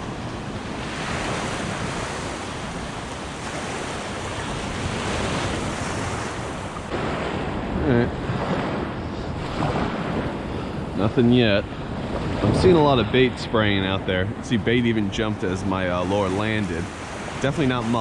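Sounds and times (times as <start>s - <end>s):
surf washing onto beach: 0.0s - 18.0s
wind on microphone: 0.0s - 18.0s.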